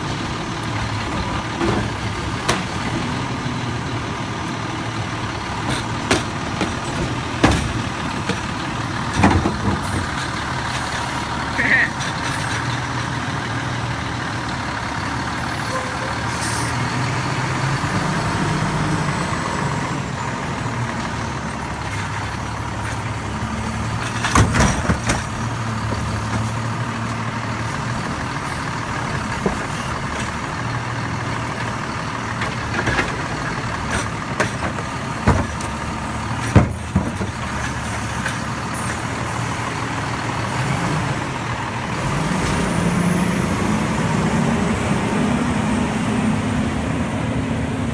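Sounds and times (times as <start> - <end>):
garbage truck engine running: 0.0 - 47.9.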